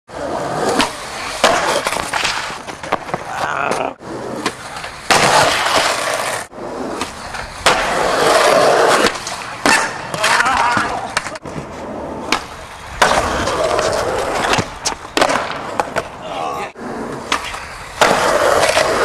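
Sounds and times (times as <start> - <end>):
skateboard wheels rolling on concrete: 0.1 - 19.0
skateboard clacks: 0.6 - 16.2, 17.1 - 19.0.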